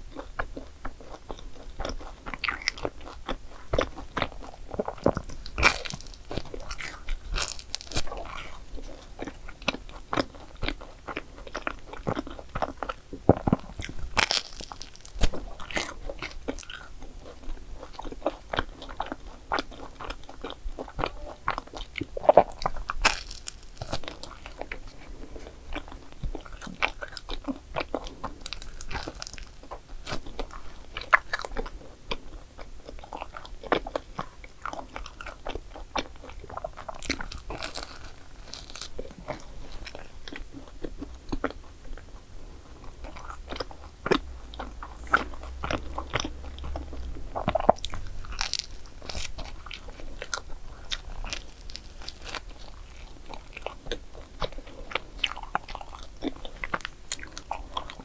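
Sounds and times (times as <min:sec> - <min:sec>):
crunchy pastry chewing: 0:00.0 - 0:58.0.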